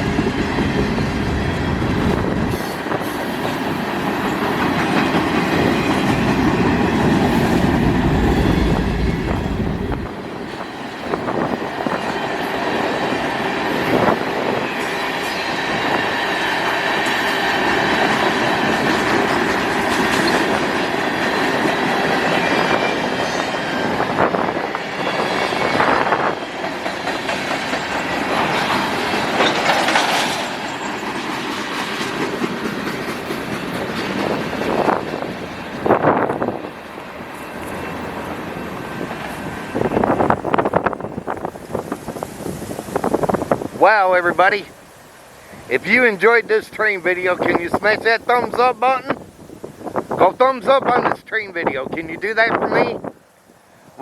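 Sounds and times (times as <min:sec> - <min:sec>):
heavy low train rumble: 0:00.0 - 0:54.0
wheels clacking over rail joints: 0:00.1 - 0:43.8.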